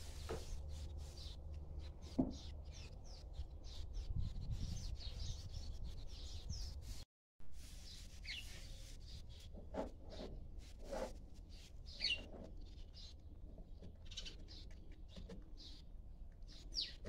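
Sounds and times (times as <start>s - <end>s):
small birds chirping: 0.0s - 7.0s, 7.8s - 17.0s.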